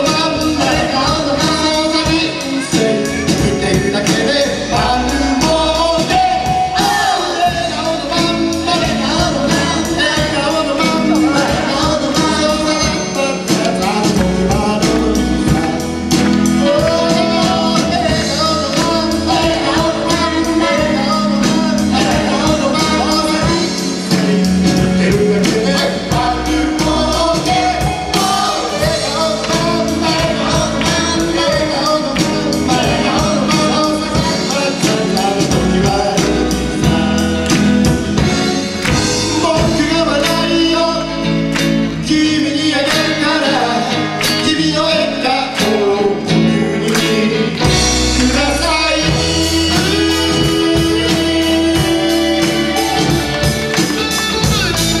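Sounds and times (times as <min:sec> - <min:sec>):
acoustic and electric guitars: 0:00.0 - 0:55.0
drum kit: 0:00.0 - 0:55.0
man singing lead: 0:00.0 - 0:55.0.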